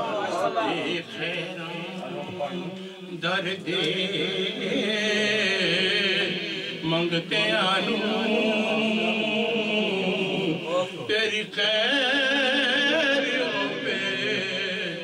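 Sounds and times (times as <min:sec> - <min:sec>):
man chanting devotional poem: 0:00.0 - 0:15.0.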